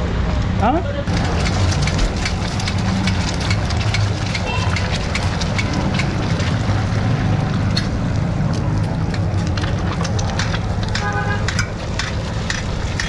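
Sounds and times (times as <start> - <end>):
egg frying in oil crackling: 1.1 - 13.0.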